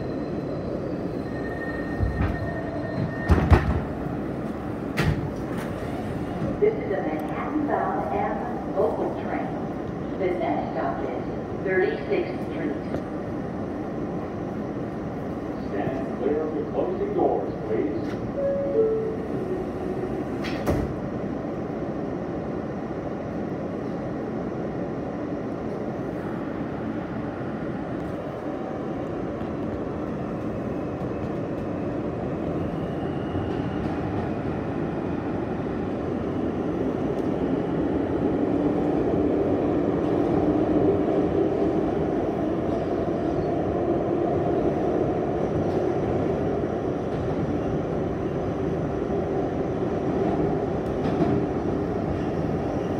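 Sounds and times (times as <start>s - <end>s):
subway car rumbling on track: 0.0s - 52.9s.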